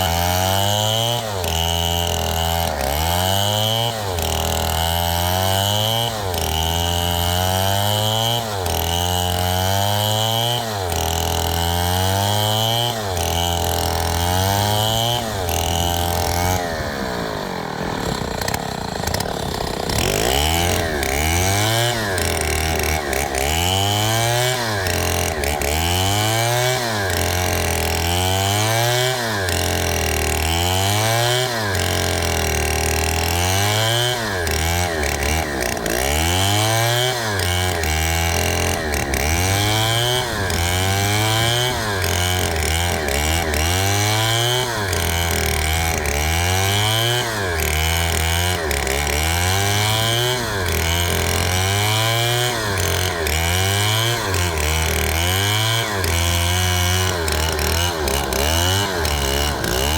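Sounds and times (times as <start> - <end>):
chainsaw revving in a cut: 0.0 - 59.9.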